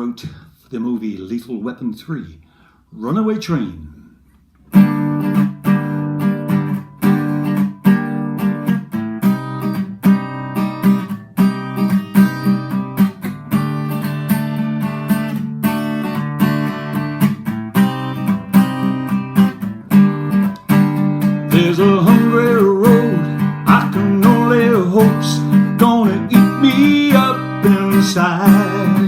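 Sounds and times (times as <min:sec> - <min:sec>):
acoustic guitar strumming chords: 0:04.7 - 0:29.0.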